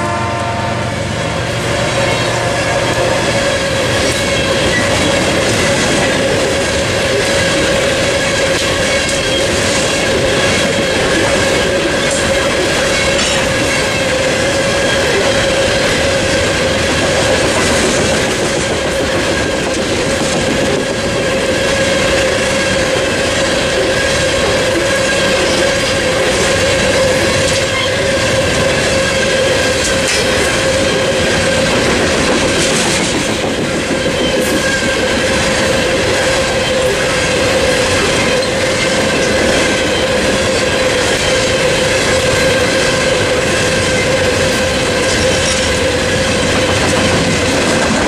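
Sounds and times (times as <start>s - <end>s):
freight train rolling past: 0.0s - 48.0s
wheels clacking over rail joints: 1.9s - 48.0s.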